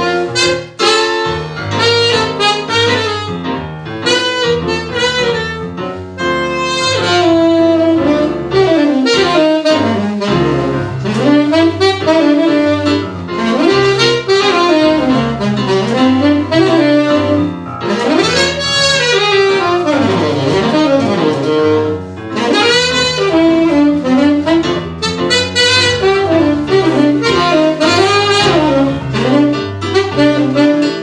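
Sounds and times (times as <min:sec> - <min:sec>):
keyboard chords: 0:00.0 - 0:31.0
tenor saxophone jazz melody: 0:00.0 - 0:31.0.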